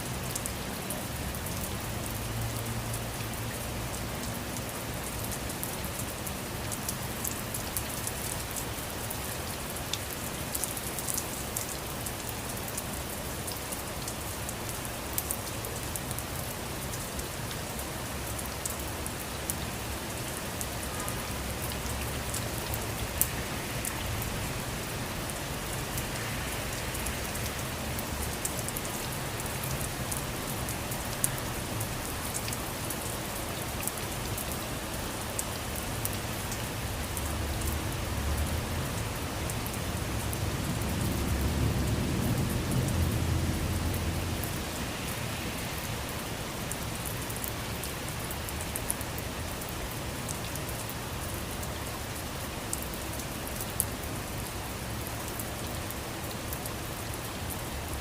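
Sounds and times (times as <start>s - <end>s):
steady rain falling: 0.0s - 58.0s
water drips and splashes: 0.0s - 58.0s.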